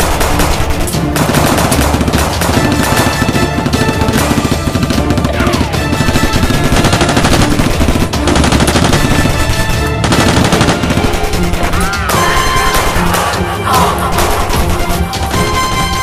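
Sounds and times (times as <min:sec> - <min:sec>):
automatic gunfire: 0:00.0 - 0:13.4
background music: 0:00.0 - 0:16.0.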